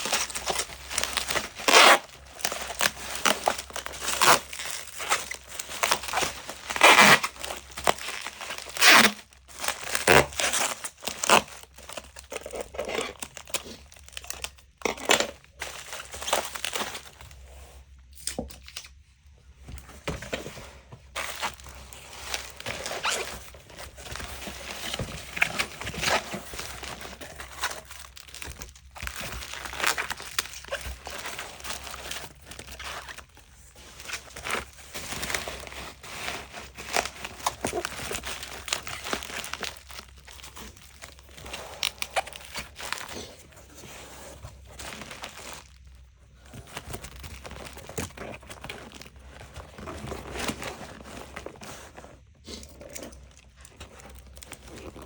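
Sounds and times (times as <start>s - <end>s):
crinkling and rustling: 0.0s - 55.0s.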